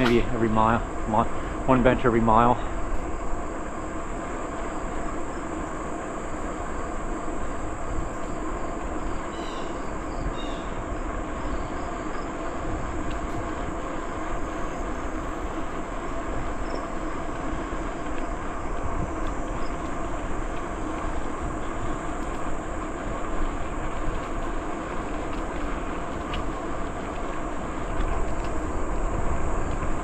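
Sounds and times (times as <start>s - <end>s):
bicycle rolling on trail: 0.0s - 30.0s.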